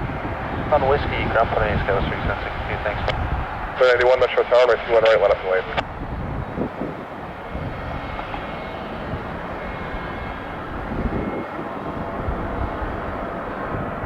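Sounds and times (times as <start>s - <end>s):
faint whine: 0.0s - 14.0s
jet engines rumbling: 0.0s - 14.0s.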